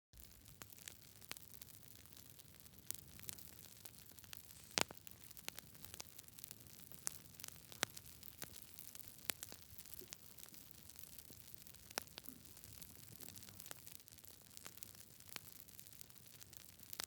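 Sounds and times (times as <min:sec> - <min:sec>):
soft steady hiss: 0:00.2 - 0:17.0
wood fire crackling and popping: 0:00.2 - 0:17.0.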